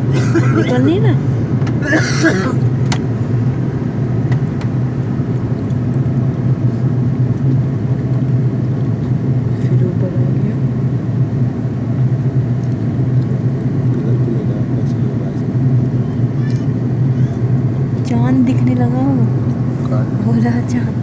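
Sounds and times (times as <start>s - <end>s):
airliner cabin engine drone: 0.0s - 21.0s.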